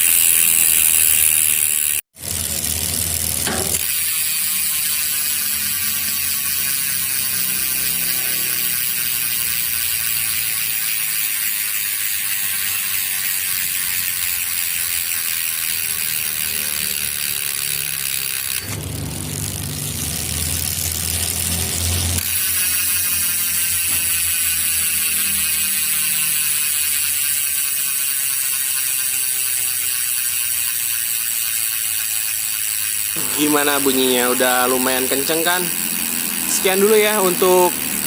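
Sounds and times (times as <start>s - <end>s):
bike freehub ticking: 0.0s - 38.0s.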